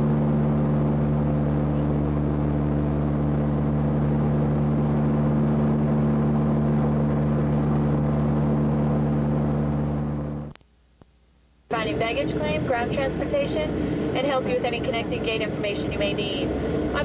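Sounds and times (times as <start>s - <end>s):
airliner engines droning in cabin: 0.0s - 10.5s, 11.7s - 17.0s.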